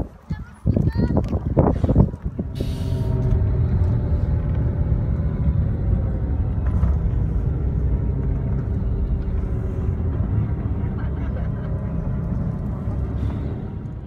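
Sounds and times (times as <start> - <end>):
road rumble inside moving vehicle: 0.6 - 14.0.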